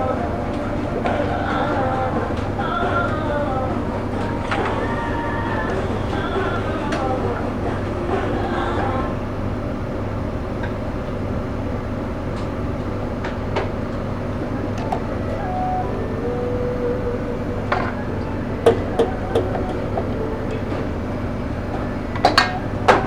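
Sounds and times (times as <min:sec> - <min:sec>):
kitchen machinery drone: 0:00.0 - 0:23.0.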